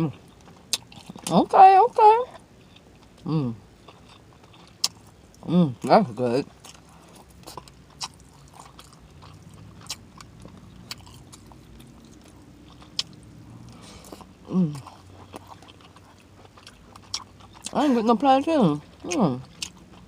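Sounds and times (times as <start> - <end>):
chewing with wet smacking: 0.0 - 1.6, 3.8 - 20.0.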